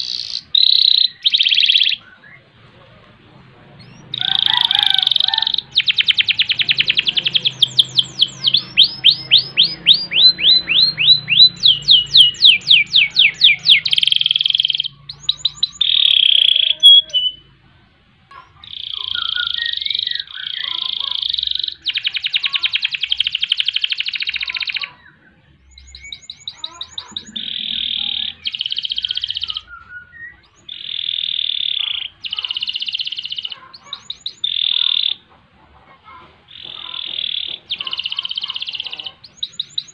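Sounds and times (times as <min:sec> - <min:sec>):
canary singing trills: 0:00.0 - 0:35.4, 0:36.0 - 0:39.9.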